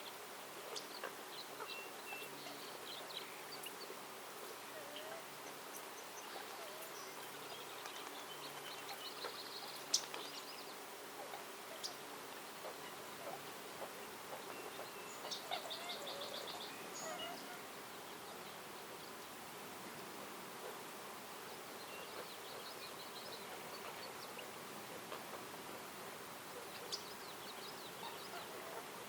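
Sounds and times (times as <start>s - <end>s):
outdoor background hiss: 0.0s - 29.0s
songbirds calling: 0.0s - 29.0s.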